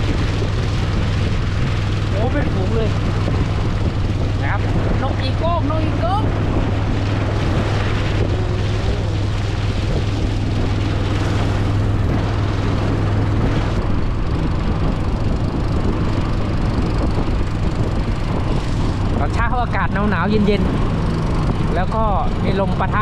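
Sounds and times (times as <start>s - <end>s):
boat engine drone: 0.0s - 23.0s
water rushing past hull: 0.0s - 23.0s.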